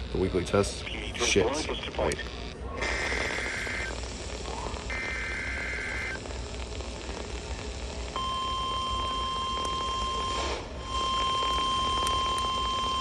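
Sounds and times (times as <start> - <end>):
radio static hiss: 0.0 - 8.2, 9.0 - 12.0.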